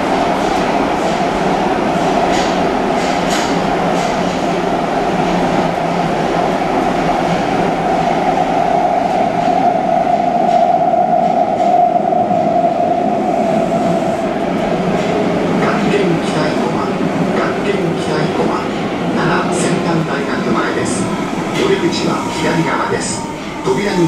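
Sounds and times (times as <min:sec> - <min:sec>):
train rumble and drone: 0:00.0 - 0:24.0.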